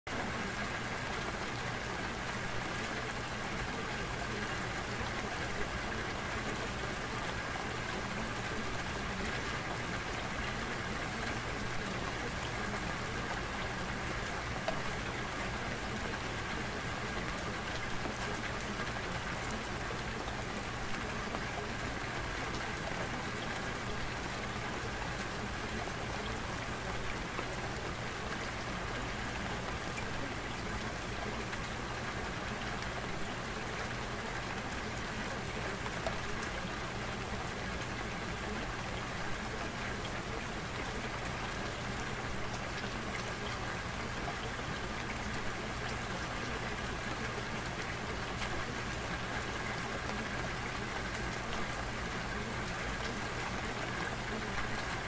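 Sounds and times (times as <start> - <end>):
rain patter: 0.1 - 55.0.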